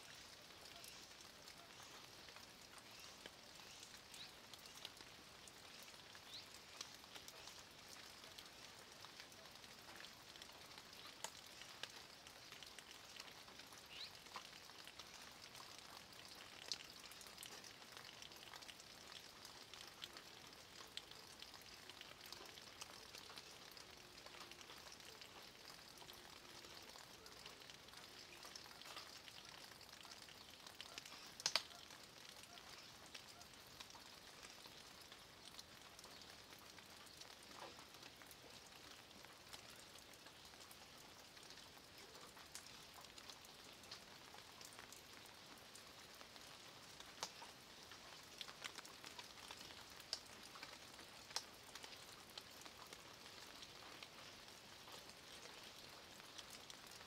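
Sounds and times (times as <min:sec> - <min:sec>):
light rain hiss: 0:00.0 - 0:57.0
raindrops ticking: 0:00.0 - 0:57.0.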